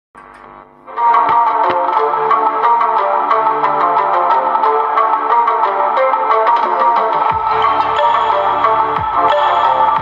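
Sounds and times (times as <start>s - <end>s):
plucked guitar-like melody: 0.2s - 10.0s.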